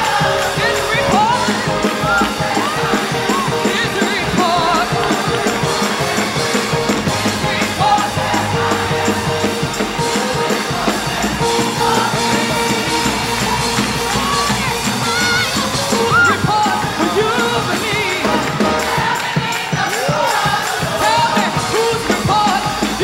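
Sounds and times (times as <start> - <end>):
church choir singing: 0.0 - 23.0
drums beating: 0.0 - 23.0
organ: 0.0 - 23.0.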